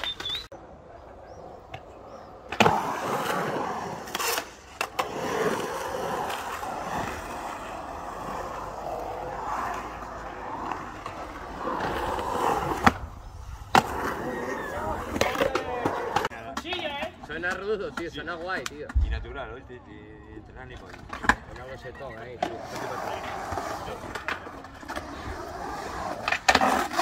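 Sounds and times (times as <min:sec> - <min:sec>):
skateboard wheels rolling on concrete: 0:00.0 - 0:27.0.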